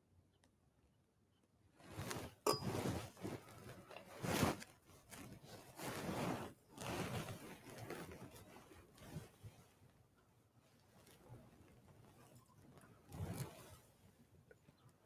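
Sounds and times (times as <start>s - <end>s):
rustling and handling noise: 1.8s - 15.0s.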